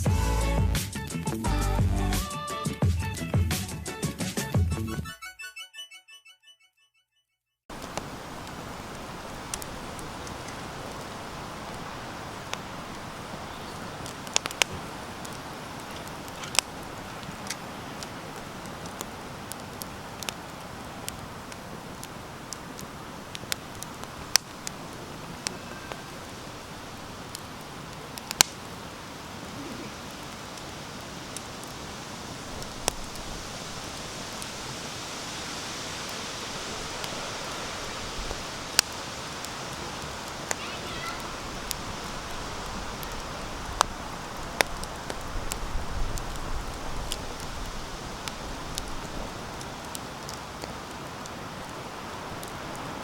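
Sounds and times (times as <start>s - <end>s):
campfire crackling and popping: 0.0s - 4.8s, 7.7s - 53.0s.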